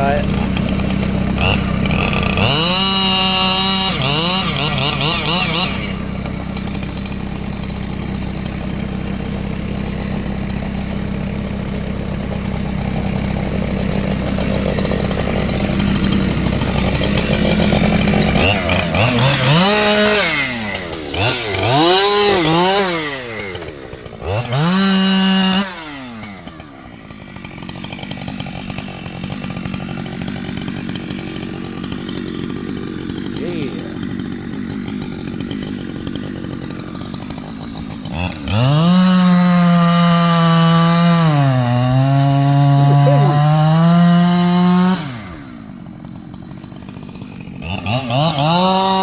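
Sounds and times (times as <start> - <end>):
chainsaw engine revving: 0.0 - 49.0.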